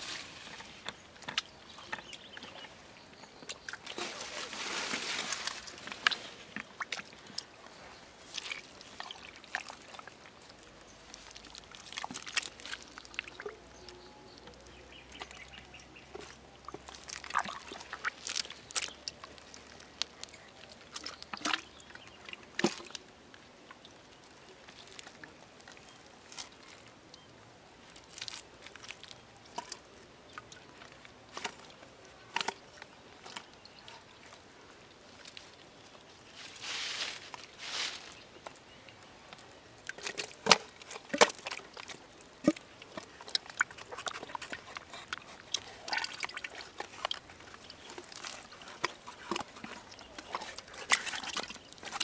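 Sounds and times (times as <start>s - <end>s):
muddy water splashing and squelching: 0.0s - 52.0s.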